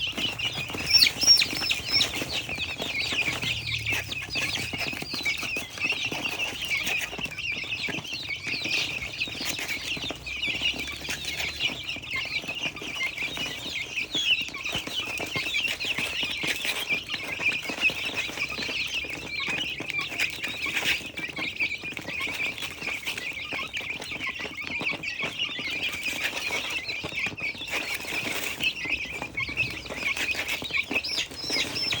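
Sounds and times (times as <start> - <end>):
flock of birds chattering: 0.0 - 32.0.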